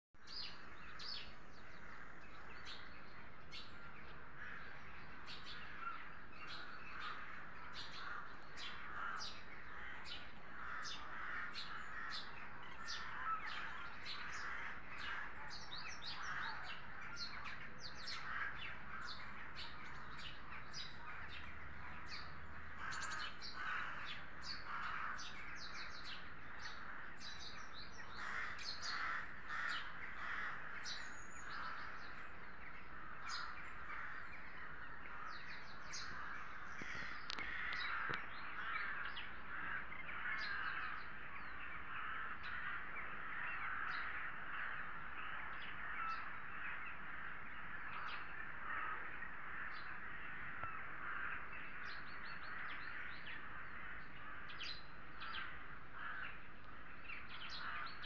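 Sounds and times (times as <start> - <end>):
crows cawing: 4.3 - 58.0.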